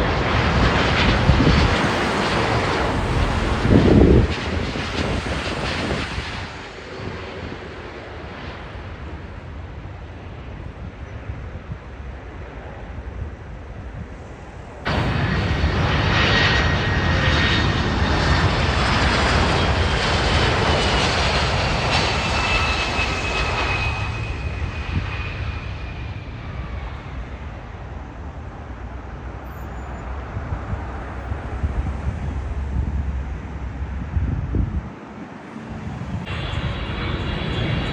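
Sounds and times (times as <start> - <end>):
jet airliner passing: 0.0 - 37.9.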